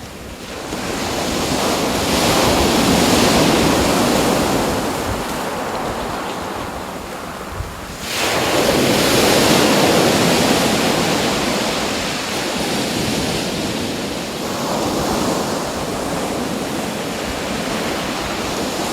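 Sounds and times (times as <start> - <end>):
sea waves washing ashore: 0.0 - 18.9.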